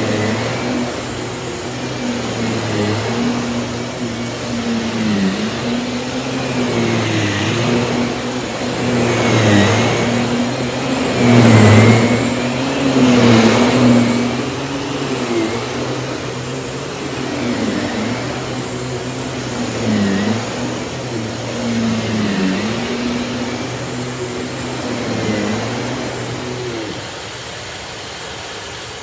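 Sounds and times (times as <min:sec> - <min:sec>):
stick vacuum motor hum: 0:00.0 - 0:27.4.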